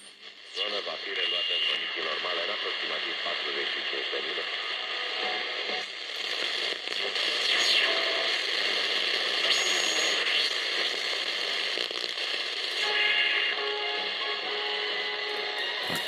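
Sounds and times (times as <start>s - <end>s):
radio static and hiss: 0.0s - 16.0s.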